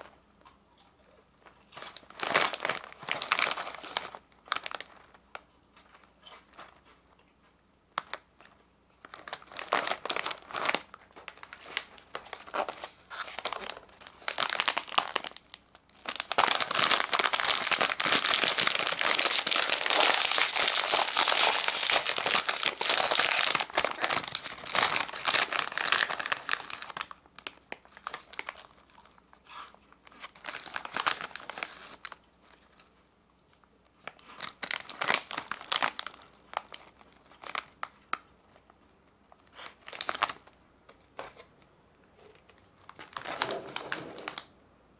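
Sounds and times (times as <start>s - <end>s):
plastic wrappers crinkling: 1.4s - 7.0s, 8.0s - 33.0s, 33.6s - 44.5s.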